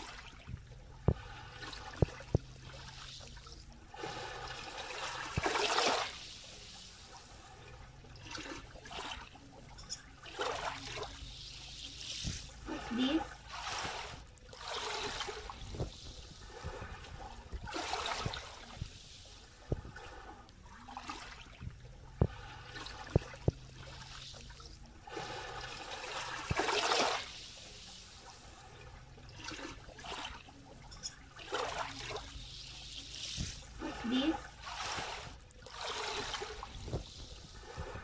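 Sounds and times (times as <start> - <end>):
small waves lapping: 0.0 - 38.0
water trickling and gurgling: 0.0 - 38.0.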